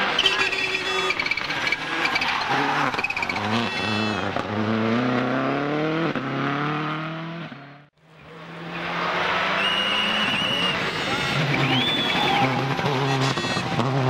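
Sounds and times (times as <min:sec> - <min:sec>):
rally car engine at full throttle: 0:00.0 - 0:14.0.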